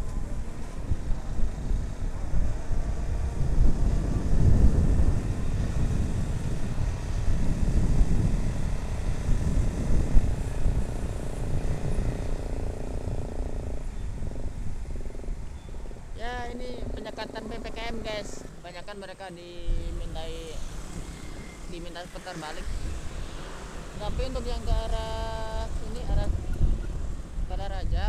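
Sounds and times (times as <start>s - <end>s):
motorcycle engine running: 0.0s - 28.0s
wind rumble on microphone: 0.0s - 28.0s.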